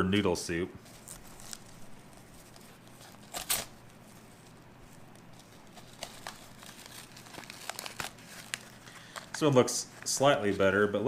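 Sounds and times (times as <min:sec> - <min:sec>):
paper packet ripping: 0:00.8 - 0:10.2.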